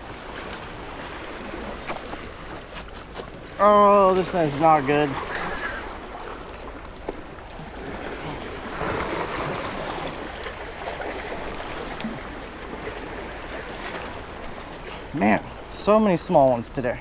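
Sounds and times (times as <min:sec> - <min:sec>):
sea waves washing against rocks: 0:00.0 - 0:17.0.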